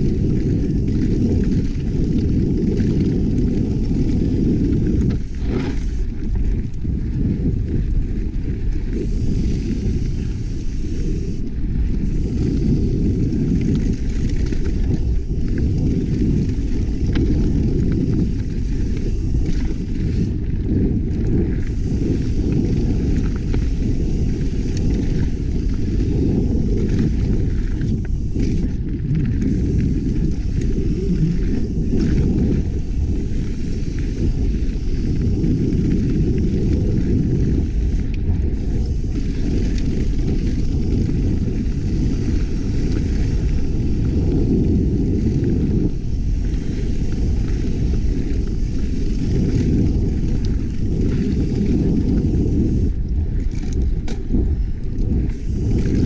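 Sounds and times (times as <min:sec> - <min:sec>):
muffled wind and trail rumble: 0:00.0 - 0:56.0.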